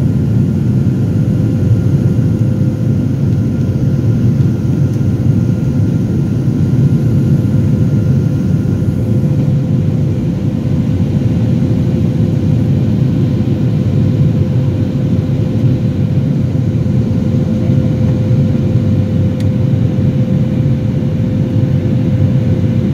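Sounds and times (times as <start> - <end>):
constant hum: 0.0 - 22.9
jet cabin engine rumble: 0.0 - 22.9.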